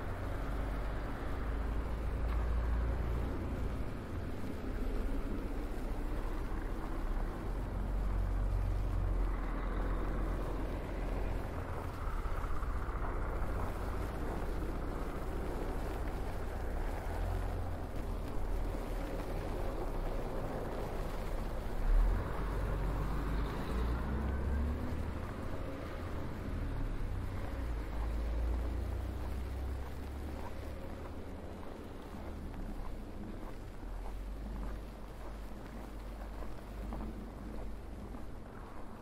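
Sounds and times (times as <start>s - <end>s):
outdoor noise hiss: 0.0s - 39.0s
wind rumbling on microphone: 0.0s - 39.0s.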